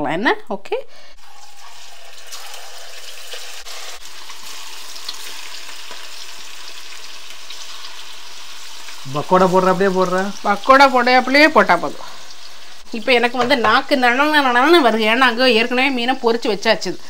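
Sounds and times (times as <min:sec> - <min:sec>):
fish deep-frying in oil: 0:01.2 - 0:17.0.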